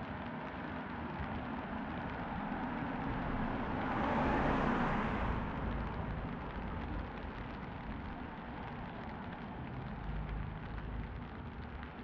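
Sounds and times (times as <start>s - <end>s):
rain falling on a street: 0.0s - 12.0s
low traffic hum: 0.1s - 12.0s.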